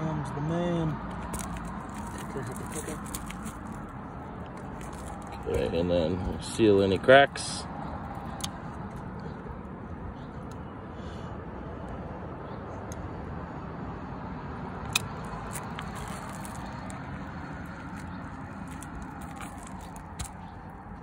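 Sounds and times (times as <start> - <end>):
outdoor background rumble: 0.0 - 21.0.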